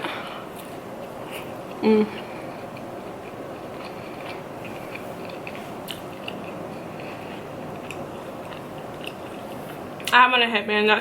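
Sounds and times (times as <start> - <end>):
person chewing food: 0.2 - 10.1.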